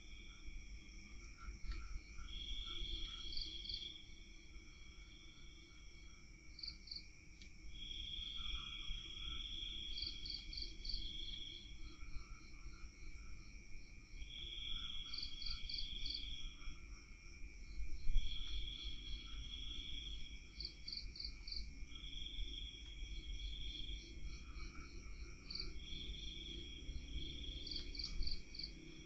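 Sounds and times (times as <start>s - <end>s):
cricket trills: 0.0s - 29.0s.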